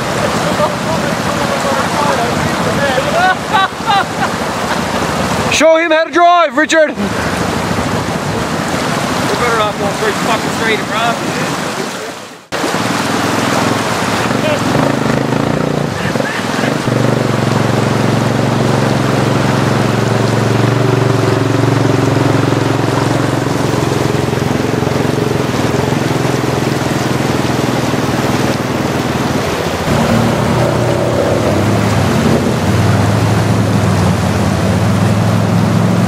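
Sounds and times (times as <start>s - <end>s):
atv engines running: 0.0s - 11.8s, 12.5s - 36.0s
water splashing from wheels: 0.0s - 36.0s.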